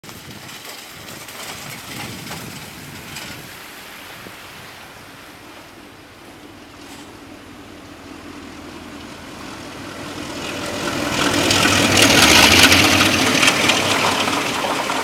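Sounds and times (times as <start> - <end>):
low locomotive engine hum: 0.0 - 15.0
rushing wind-like train noise: 0.0 - 15.0.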